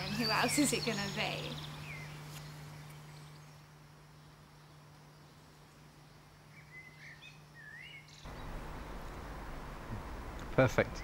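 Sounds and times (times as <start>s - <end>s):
small bird chirping: 0.0s - 9.2s
steady low hum: 0.0s - 11.0s.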